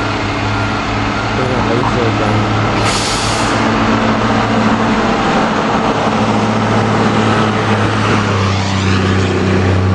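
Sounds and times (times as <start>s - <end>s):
diesel engine running: 0.0s - 9.9s.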